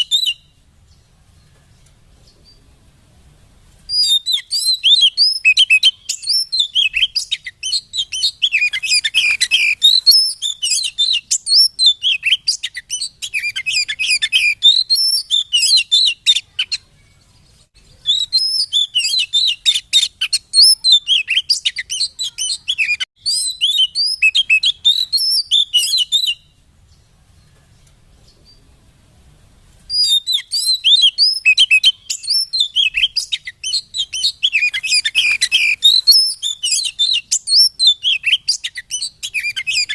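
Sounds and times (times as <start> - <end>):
magpie-robin singing: 0.0 - 2.7, 3.9 - 28.7, 29.9 - 39.9.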